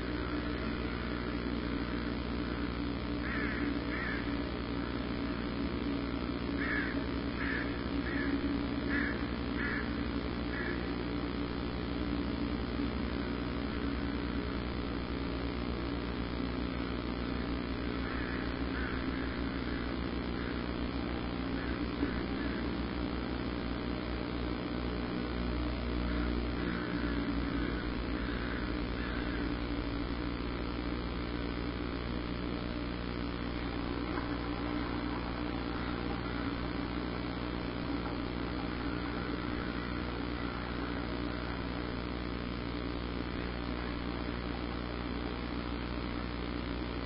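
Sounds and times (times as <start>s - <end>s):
low machine drone: 0.0s - 47.0s.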